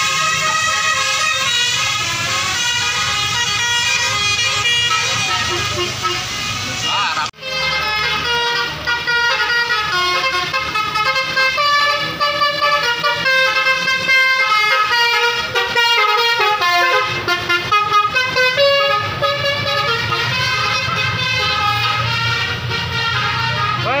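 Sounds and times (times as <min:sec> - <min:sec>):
musical air horn tune: 0:00.0 - 0:24.0.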